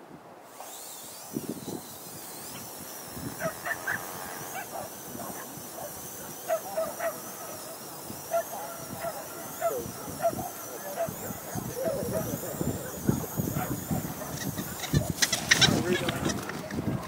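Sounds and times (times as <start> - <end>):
thin wavering high whine: 0.4 - 16.5
dogs barking and yipping: 2.6 - 16.5.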